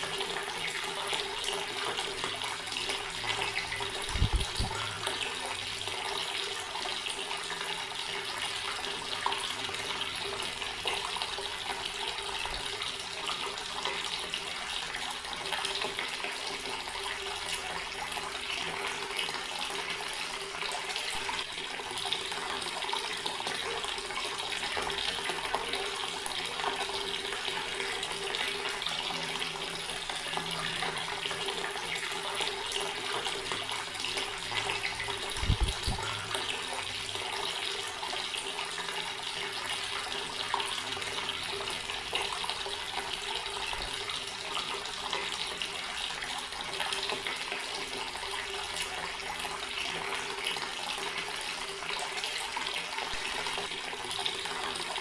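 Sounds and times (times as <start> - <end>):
water running from tap: 0.0 - 55.0.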